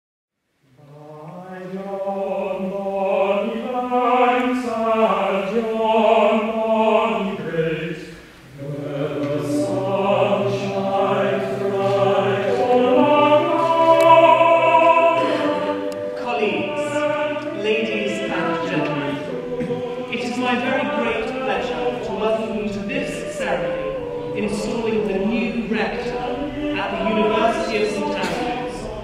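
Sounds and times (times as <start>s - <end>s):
choir singing: 0.7s - 29.0s.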